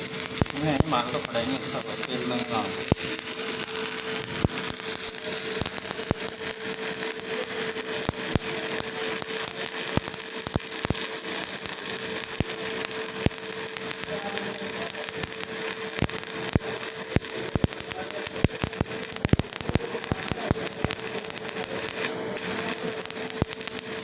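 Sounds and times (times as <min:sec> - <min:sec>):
arc welding crackling hiss: 0:00.0 - 0:24.0
sharp welding pops: 0:00.0 - 0:24.0
steady hum: 0:00.0 - 0:24.0.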